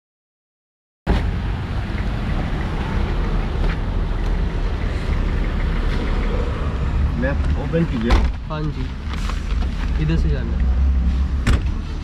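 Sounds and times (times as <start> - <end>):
street traffic: 1.1 - 12.0.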